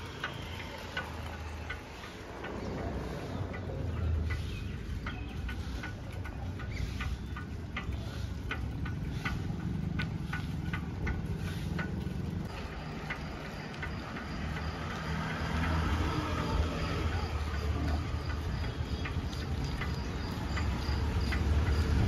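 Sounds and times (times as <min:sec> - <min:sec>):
sharp ticks: 0:00.0 - 0:22.0
vehicle engine running: 0:00.0 - 0:22.0.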